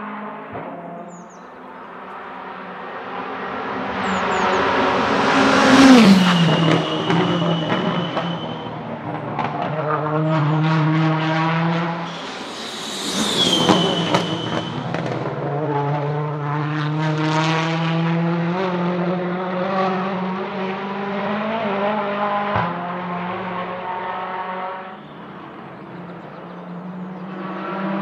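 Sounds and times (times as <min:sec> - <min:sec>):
racing car engine passing: 0:01.7 - 0:28.0.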